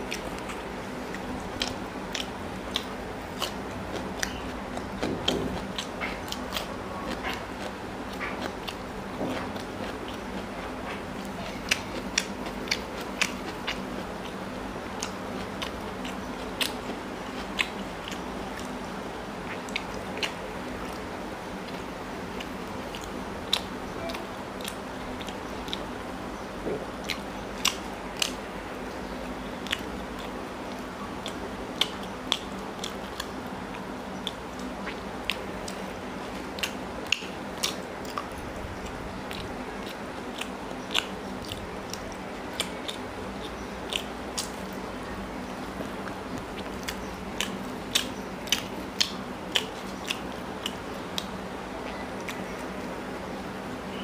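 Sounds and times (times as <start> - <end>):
man chewing with wet mouth clicks: 0.0 - 53.6
steady low hum: 0.0 - 54.0.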